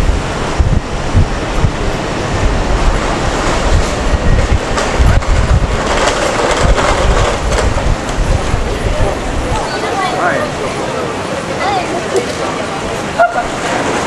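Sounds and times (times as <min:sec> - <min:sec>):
train passing with wheel clatter: 0:00.0 - 0:14.0.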